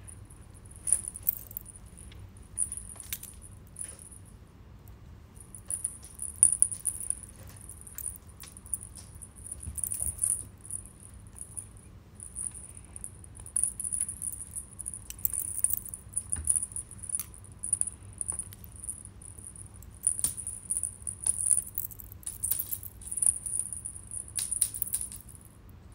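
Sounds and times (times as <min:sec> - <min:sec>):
small bell jingling: 0:00.5 - 0:04.3, 0:05.4 - 0:25.5.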